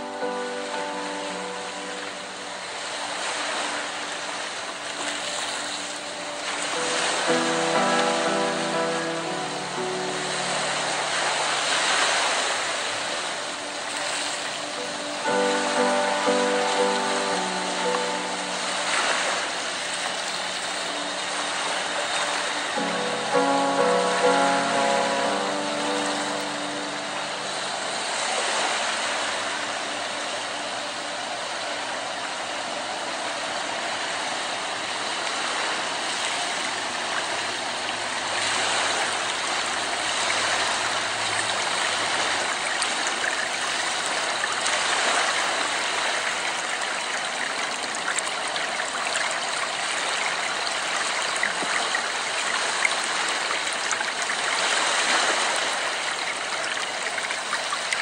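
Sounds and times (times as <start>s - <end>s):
music track: 0.0s - 58.0s.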